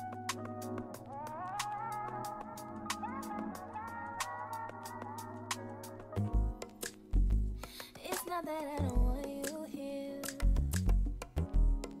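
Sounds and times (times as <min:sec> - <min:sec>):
song with steady beat: 0:00.0 - 0:12.0.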